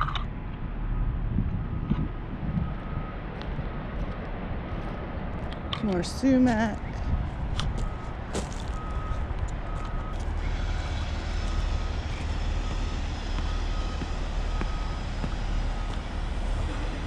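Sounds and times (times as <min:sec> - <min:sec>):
heavy machinery rumble: 0:00.0 - 0:17.0
vehicle reversing alarm beeping: 0:00.8 - 0:04.0, 0:04.6 - 0:17.0.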